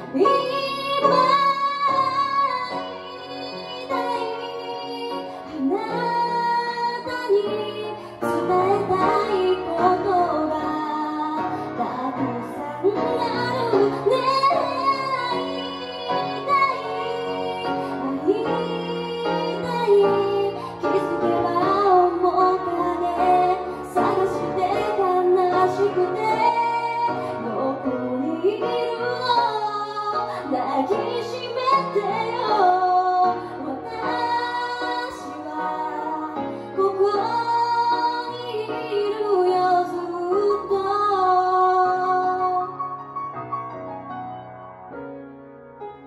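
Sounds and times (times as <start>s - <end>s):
woman singing into a microphone: 0.0s - 42.9s
grand piano: 0.0s - 46.0s.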